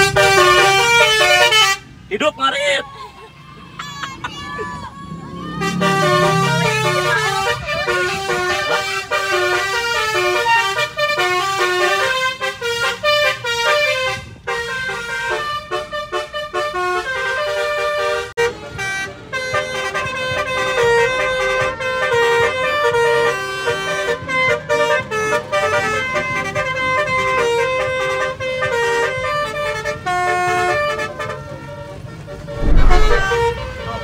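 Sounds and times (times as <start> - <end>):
musical car horn melody: 0.0 - 1.9, 5.4 - 34.0.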